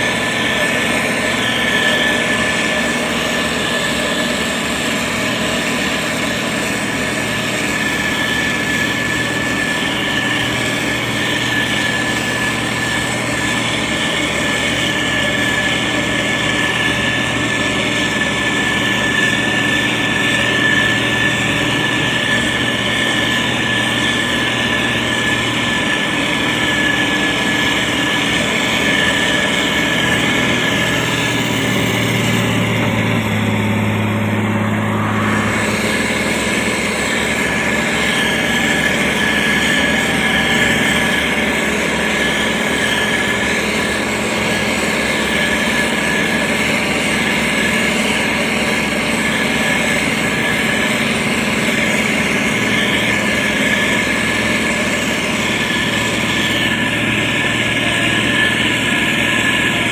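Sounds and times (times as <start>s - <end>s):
deeper engine note: 0.0s - 59.9s
diesel engine running: 0.0s - 59.9s.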